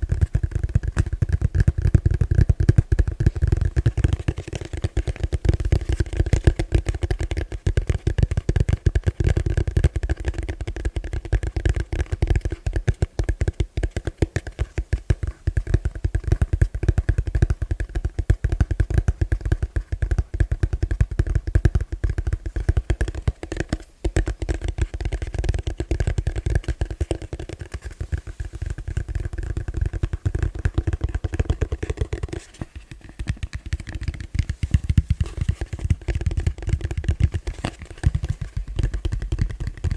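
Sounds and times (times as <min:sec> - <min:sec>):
rapid tapping on a plastic bowl: 0:00.0 - 0:39.9.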